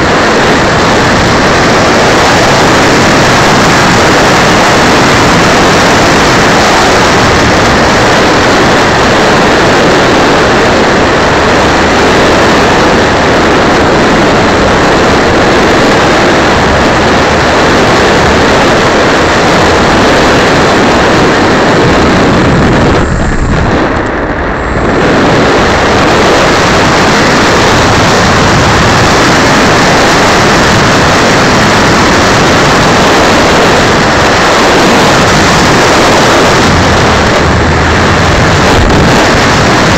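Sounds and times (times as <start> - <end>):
airflow rush: 0.0 - 39.9
electric motor and propeller: 0.0 - 39.9.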